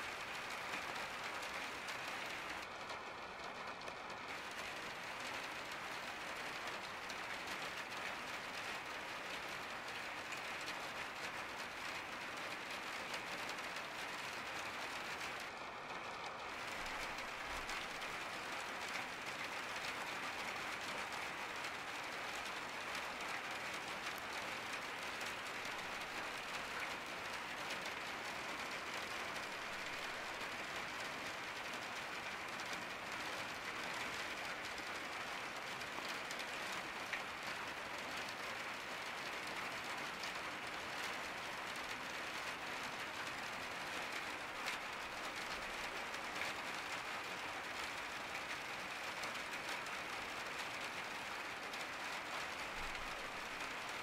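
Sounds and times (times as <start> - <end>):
rain pattering on a skylight: 0.0 - 54.0.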